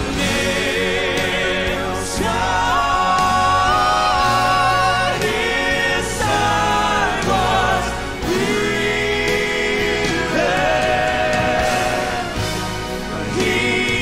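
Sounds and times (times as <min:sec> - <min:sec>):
instrumental accompaniment: 0:00.0 - 0:14.0
male vocal quartet singing: 0:00.0 - 0:14.0.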